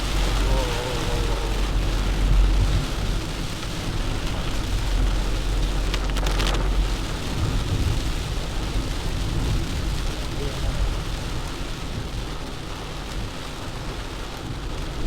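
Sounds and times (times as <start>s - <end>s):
heavy rain pelting a car: 0.0s - 15.0s
low road rumble: 0.0s - 15.0s.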